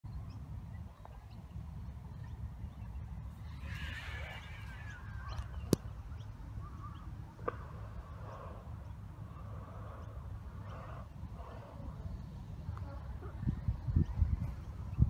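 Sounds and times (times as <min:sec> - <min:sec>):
faint wavering sounds: 0:00.1 - 0:15.0
wind rumbling on microphone: 0:00.1 - 0:15.0.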